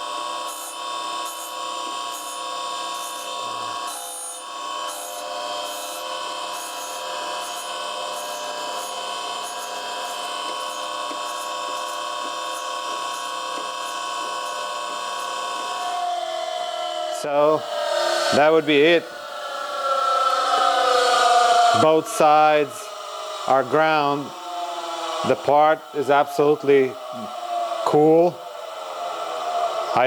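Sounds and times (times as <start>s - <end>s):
grinding wheel on steel: 0.6s - 30.0s.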